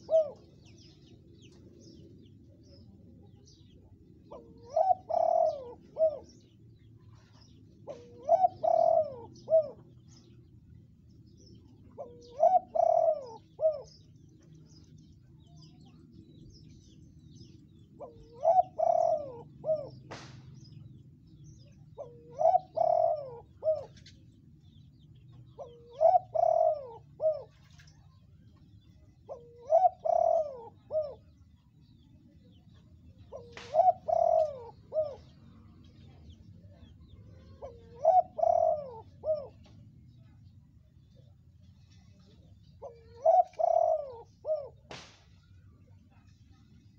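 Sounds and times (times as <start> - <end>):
dove cooing: 0.0 - 46.7.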